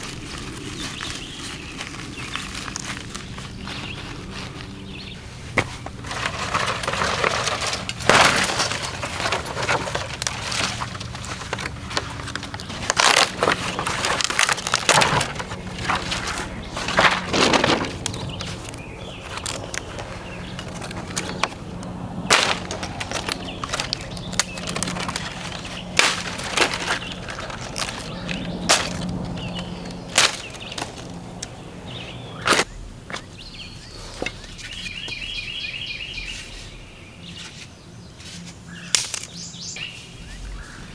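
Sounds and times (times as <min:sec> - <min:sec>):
dry twigs snapping: 0:00.0 - 0:33.2, 0:38.7 - 0:39.8.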